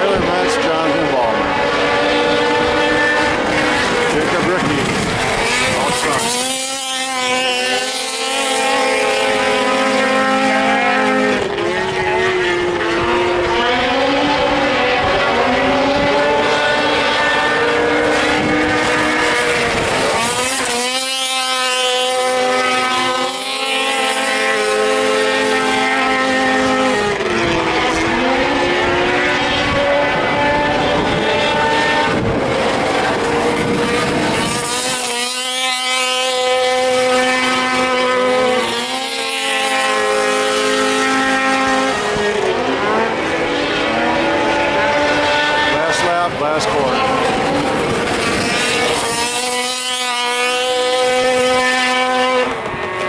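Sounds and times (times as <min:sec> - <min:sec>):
small racing engines: 0:00.0 - 0:53.0.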